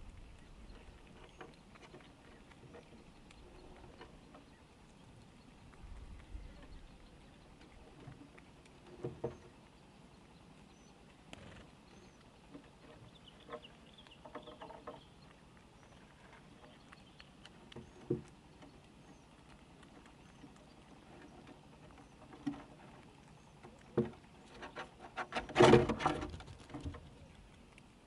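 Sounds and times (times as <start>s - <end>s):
squirrels nibbling food: 0.0s - 28.0s.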